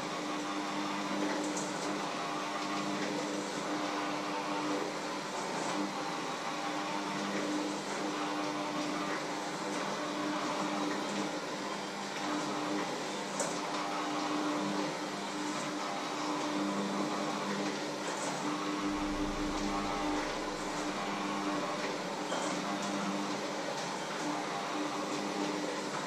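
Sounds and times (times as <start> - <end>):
electric hand mixer running: 0.0 - 26.0.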